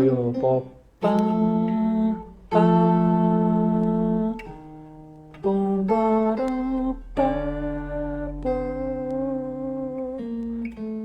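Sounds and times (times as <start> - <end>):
guitar playing slow melody: 0.0 - 11.0.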